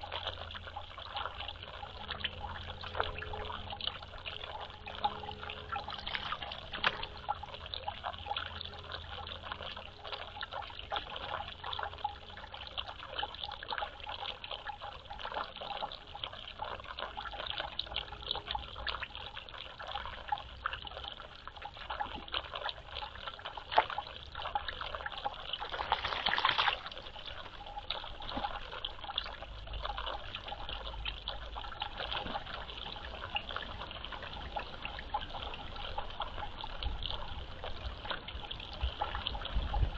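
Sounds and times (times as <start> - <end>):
water trickling and splattering: 0.0 - 39.9.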